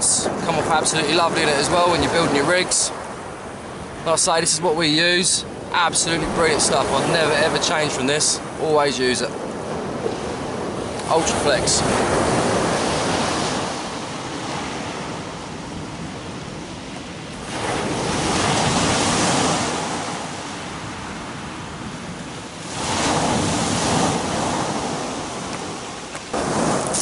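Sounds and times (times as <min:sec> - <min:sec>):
waves breaking on shore: 0:00.0 - 0:27.0.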